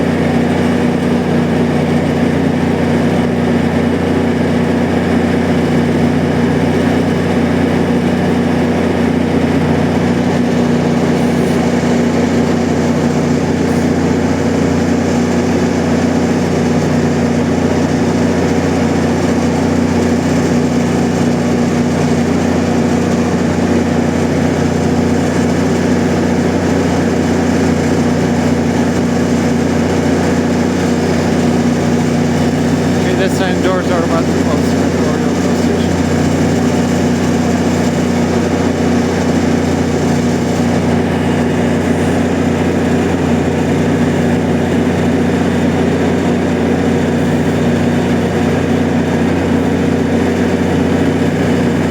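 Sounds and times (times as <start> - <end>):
diesel locomotive idling: 0.0 - 51.9.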